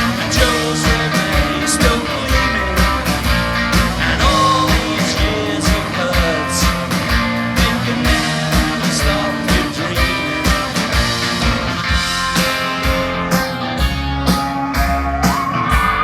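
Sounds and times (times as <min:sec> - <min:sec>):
drums beating: 0:00.0 - 0:16.0
electric guitars: 0:00.0 - 0:16.0
live rock band playing: 0:00.0 - 0:16.0.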